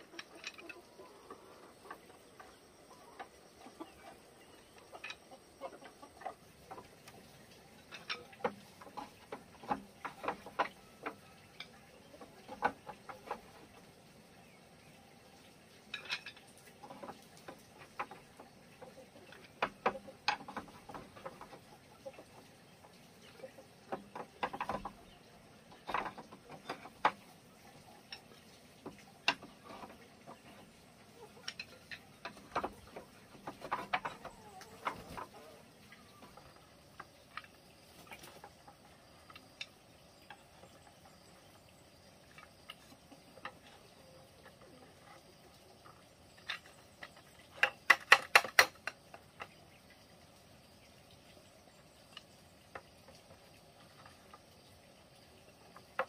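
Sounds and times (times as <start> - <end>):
bamboo slats clicking and tapping: 0.0 - 1.0, 1.8 - 13.9, 15.9 - 40.8, 42.3 - 45.1, 45.8 - 49.6, 55.7 - 56.0.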